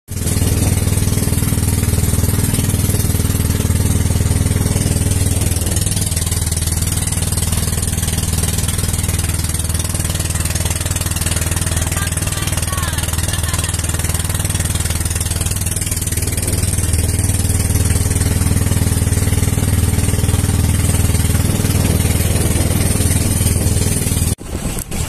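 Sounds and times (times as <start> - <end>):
boat engine throbbing: 0.1 - 25.0
water rushing: 0.1 - 25.0
wind: 0.1 - 25.0.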